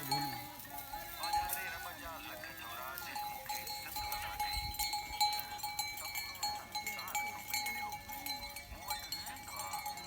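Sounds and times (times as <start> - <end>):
goat bells clinking: 0.0 - 10.0.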